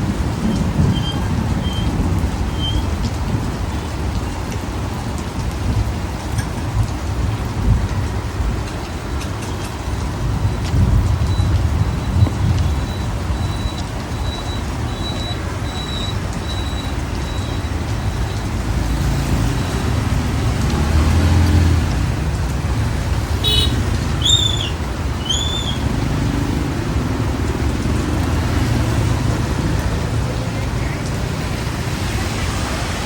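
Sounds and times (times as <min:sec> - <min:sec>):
street traffic rumbling: 0:00.0 - 0:33.0.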